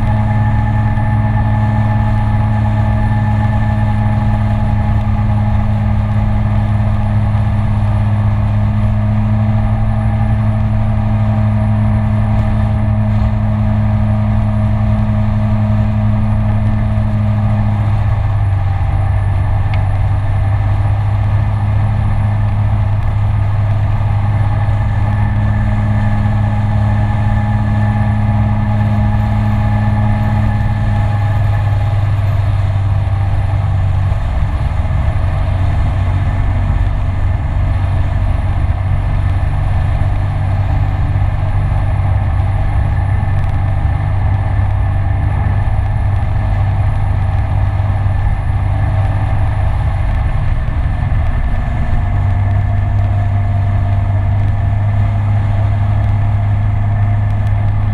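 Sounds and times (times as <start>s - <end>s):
scooter engine droning: 0.0s - 57.9s
wind and road noise: 0.0s - 57.9s.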